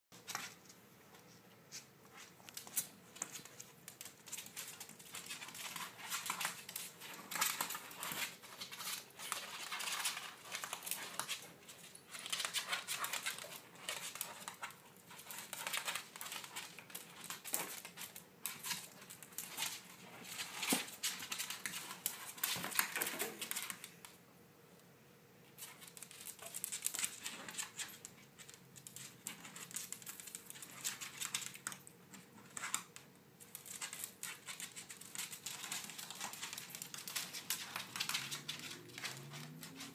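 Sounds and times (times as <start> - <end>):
claws scrabbling on hardwood floor: 0.2 - 24.2, 25.6 - 39.9.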